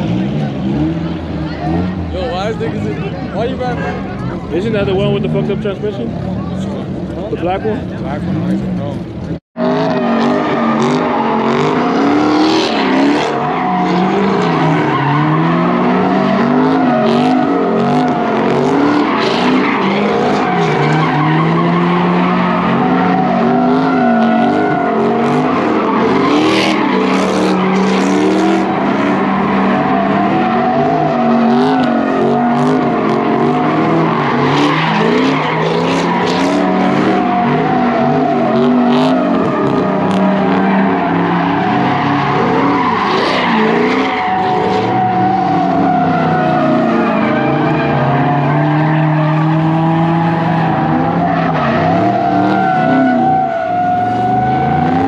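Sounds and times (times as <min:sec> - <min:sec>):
car engine revving high: 0:00.0 - 0:55.0
tires squealing: 0:00.0 - 0:55.0.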